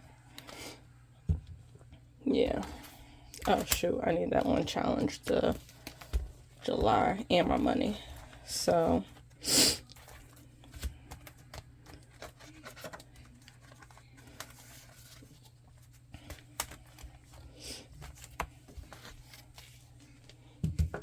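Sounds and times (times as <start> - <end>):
faint steady hum: 0.0 - 21.0
paper and plastic rustling: 2.6 - 21.0.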